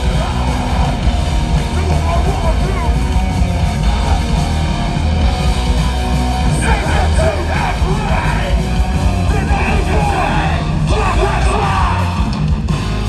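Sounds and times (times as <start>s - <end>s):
hardcore band playing live: 0.0s - 13.0s
vocals over band: 0.0s - 13.0s.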